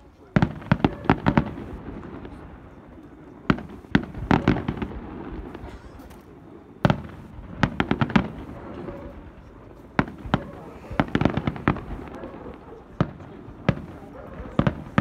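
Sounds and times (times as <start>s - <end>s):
crackling reports: 0.0s - 15.0s
fireworks bangs: 0.0s - 15.0s.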